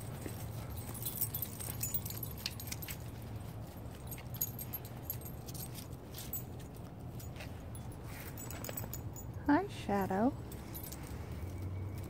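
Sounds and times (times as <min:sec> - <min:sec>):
light metallic jingling: 0:00.0 - 0:12.0.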